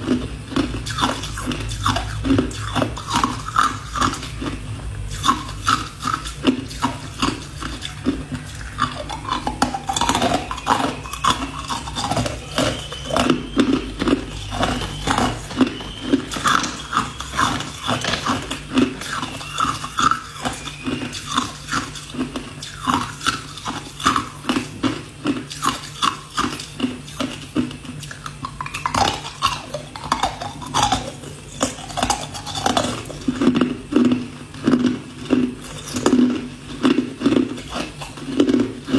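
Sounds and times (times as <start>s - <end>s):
ice cubes crunching in mouth: 0.0s - 38.9s.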